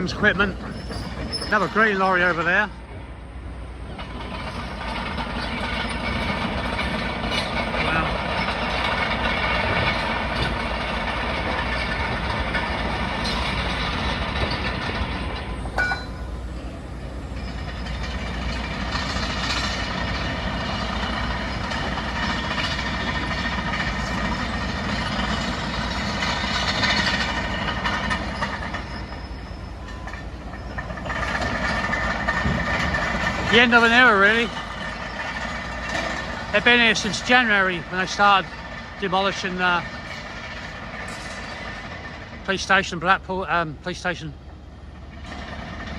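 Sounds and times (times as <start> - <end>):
diesel plant and lorries running: 0.0 - 45.9.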